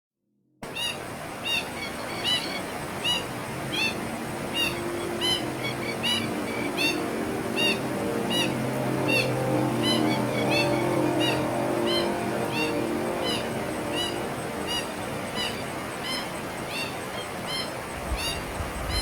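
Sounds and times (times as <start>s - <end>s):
bird calling: 0.6s - 19.0s
steady rushing noise: 0.6s - 19.0s.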